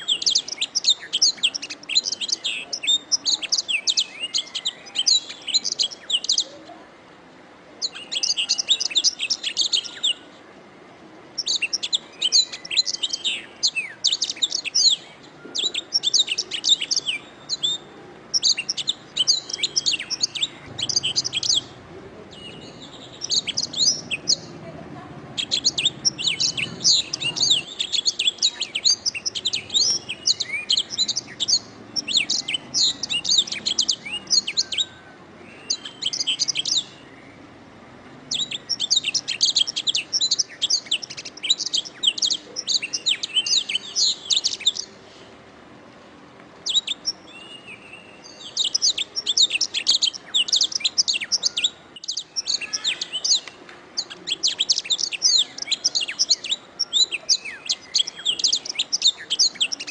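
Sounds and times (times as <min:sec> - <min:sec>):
canary singing trills: 0:00.0 - 0:06.8, 0:07.8 - 0:10.4, 0:11.2 - 0:37.6, 0:38.2 - 0:45.2, 0:46.6 - 0:59.9.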